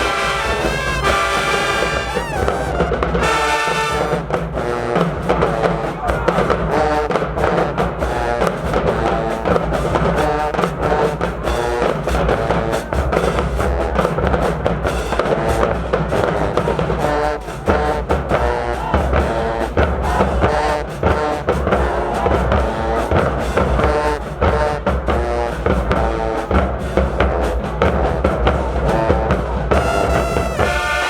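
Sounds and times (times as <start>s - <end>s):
brass chords: 0.0s - 31.0s
drumline with bass drums and snares: 0.0s - 31.0s.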